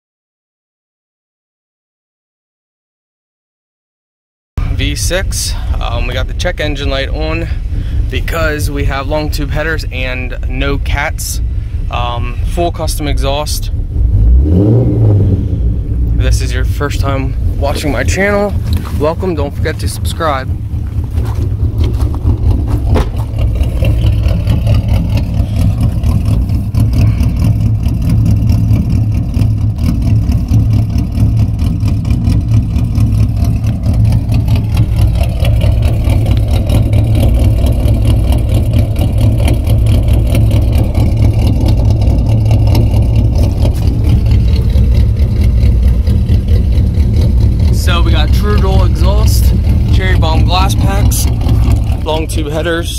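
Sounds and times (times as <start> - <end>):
car engine idling: 4.6 - 52.9.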